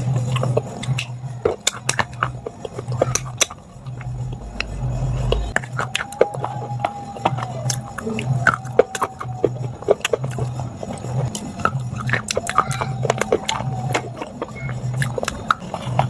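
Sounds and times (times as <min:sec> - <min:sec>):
crunching bites and chewing: 0:00.0 - 0:16.0
soft background music: 0:00.0 - 0:16.0.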